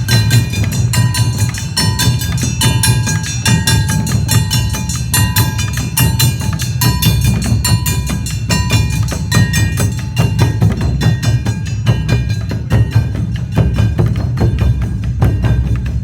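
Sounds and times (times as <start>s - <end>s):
deep big drum: 0.0s - 16.0s
hand gongs clanging: 0.0s - 16.0s
taiko drums: 0.0s - 16.0s.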